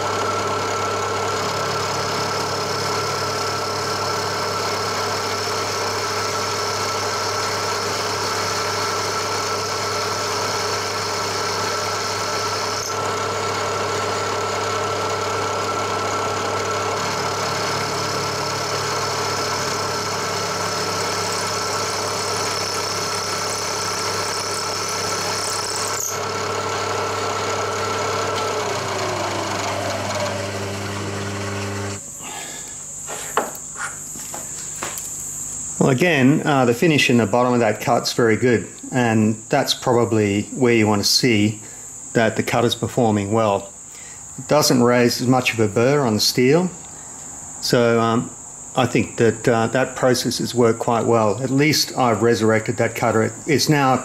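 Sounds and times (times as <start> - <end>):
milling machine whine: 0.0 - 54.0.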